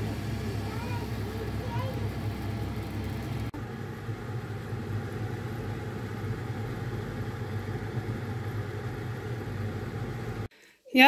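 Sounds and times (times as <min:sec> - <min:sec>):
low motor hum: 0:00.0 - 0:10.5.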